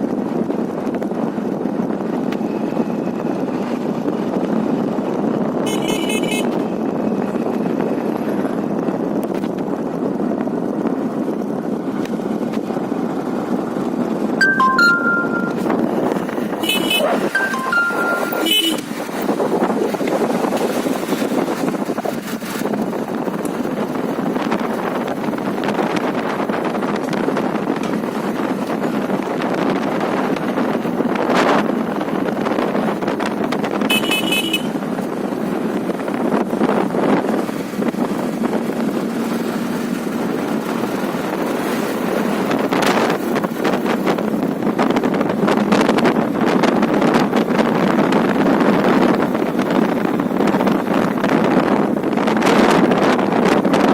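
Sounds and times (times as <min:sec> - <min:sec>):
wind buffeting microphone: 0:00.0 - 0:14.4, 0:15.5 - 0:53.9
motorcycle running: 0:00.0 - 0:53.9.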